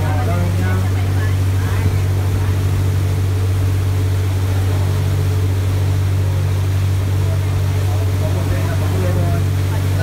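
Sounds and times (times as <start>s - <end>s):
boat engine drone: 0.0s - 10.0s
water rushing in wake: 0.0s - 10.0s.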